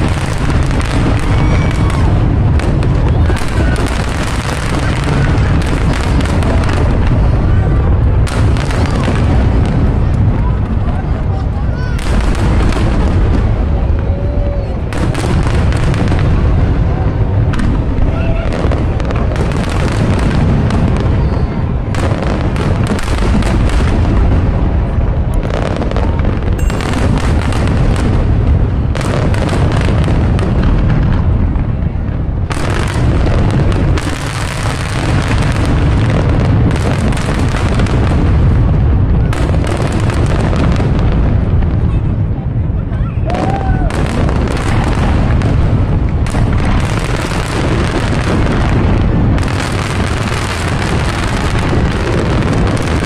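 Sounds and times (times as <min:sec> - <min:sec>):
crowd voices: 0:00.0 - 0:53.0
fireworks booming and crackling: 0:00.0 - 0:53.0.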